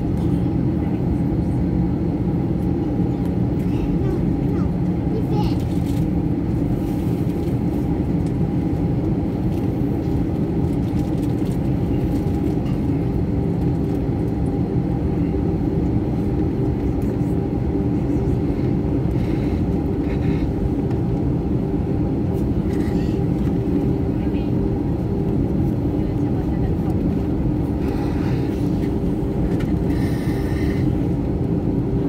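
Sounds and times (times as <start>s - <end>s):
jet airliner cabin engine hum: 0.0s - 32.0s.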